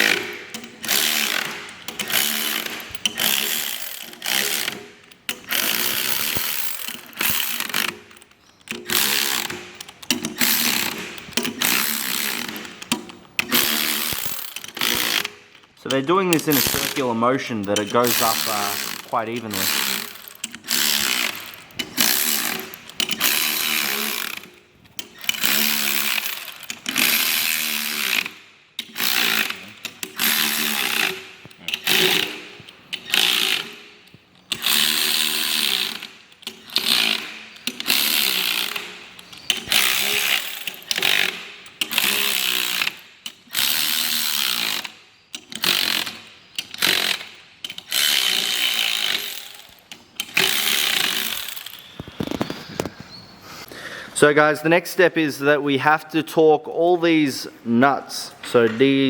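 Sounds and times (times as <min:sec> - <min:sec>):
power wrench whining buzz: 0:00.0 - 0:53.1.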